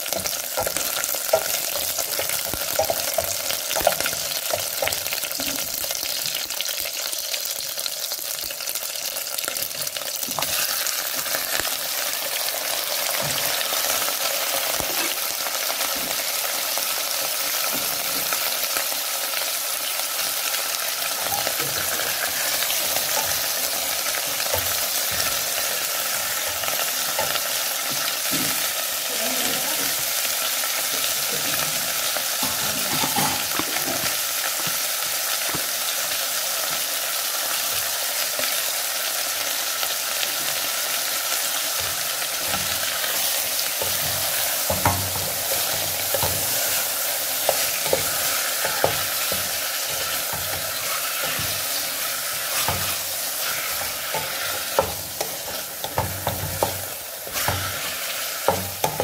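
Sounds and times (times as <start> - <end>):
meat sizzling in hot oil: 0.0 - 59.0.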